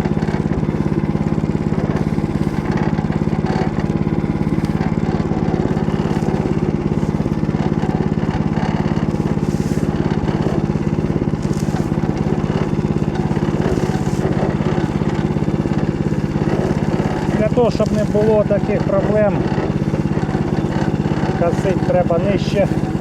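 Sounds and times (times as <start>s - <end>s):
tractor engine running under load: 0.0s - 23.0s.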